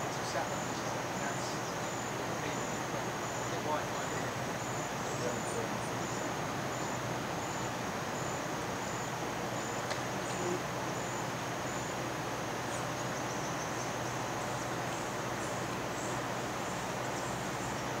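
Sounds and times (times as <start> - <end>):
insects chirping: 0.0 - 18.0
outdoor hiss: 0.0 - 18.0.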